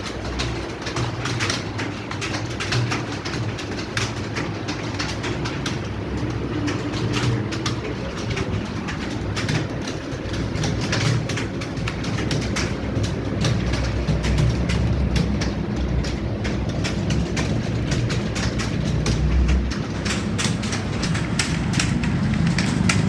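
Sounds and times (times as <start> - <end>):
keyboards clattering: 0.0 - 23.0.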